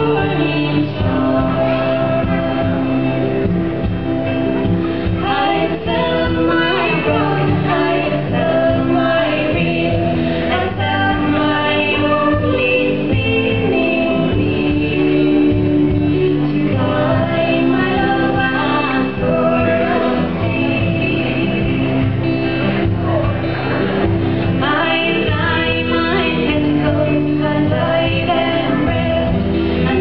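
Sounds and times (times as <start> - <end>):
woman singing a ballad: 0.0 - 3.3, 5.0 - 22.3, 24.5 - 30.0.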